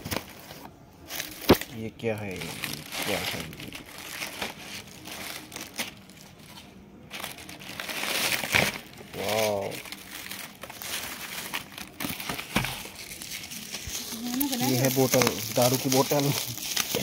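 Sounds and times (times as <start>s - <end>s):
packing paper crinkling: 0.0s - 17.0s.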